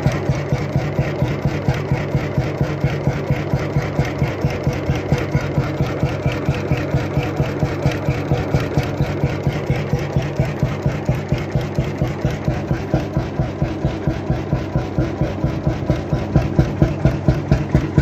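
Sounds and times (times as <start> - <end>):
mechanical clatter of engine: 0.0 - 18.0
oil engine running steadily: 0.0 - 18.0.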